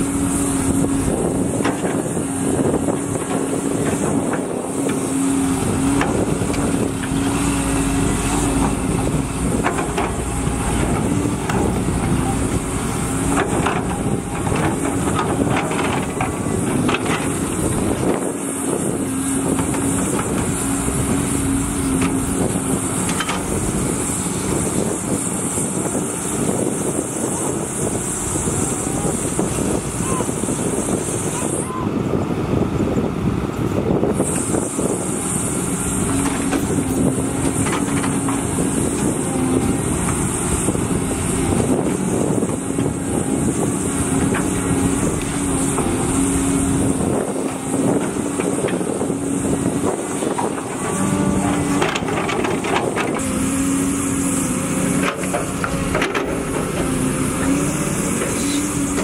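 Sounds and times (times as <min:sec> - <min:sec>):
dump truck diesel engine: 0:00.0 - 0:59.0.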